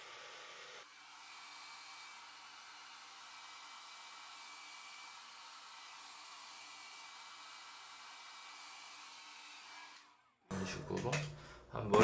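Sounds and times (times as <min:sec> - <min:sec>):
hair dryer running: 0:00.0 - 0:11.4.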